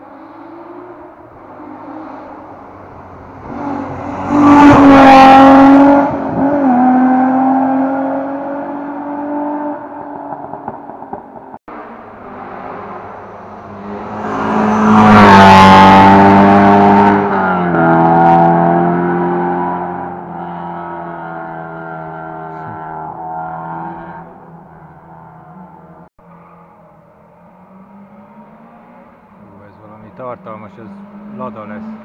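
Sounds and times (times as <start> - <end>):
rally car passing at speed: 0.0 - 32.0.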